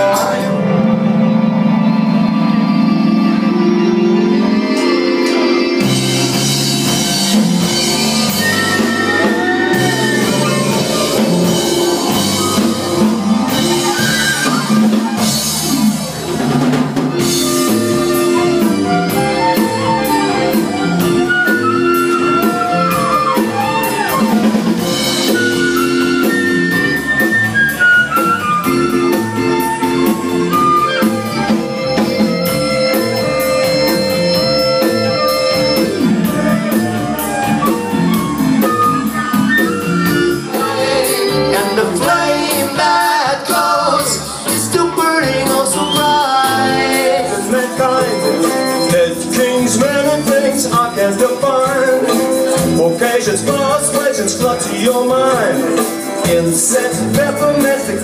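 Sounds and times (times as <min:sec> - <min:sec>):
bass: 0:00.0 - 0:58.0
guitar lines: 0:00.0 - 0:58.0
drum kit: 0:04.4 - 0:58.0.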